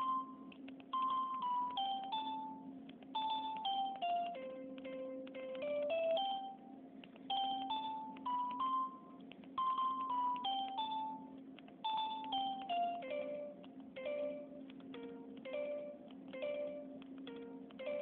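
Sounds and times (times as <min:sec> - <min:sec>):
phone keypad beeping tune: 0:00.0 - 0:06.6, 0:07.3 - 0:18.0.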